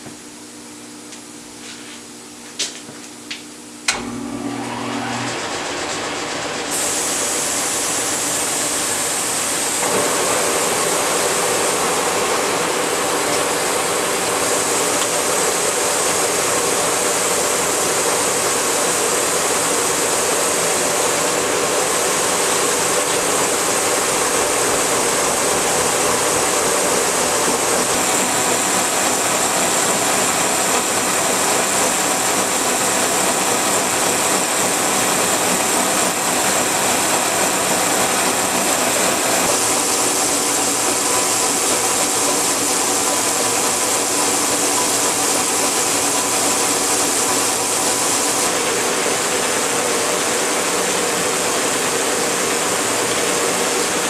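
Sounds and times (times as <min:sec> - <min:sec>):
milling machine running: 0:03.9 - 0:54.0.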